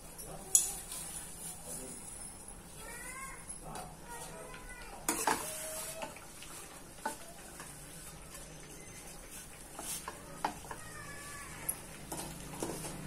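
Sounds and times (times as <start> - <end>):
buns sizzling in butter: 0.0 - 13.0.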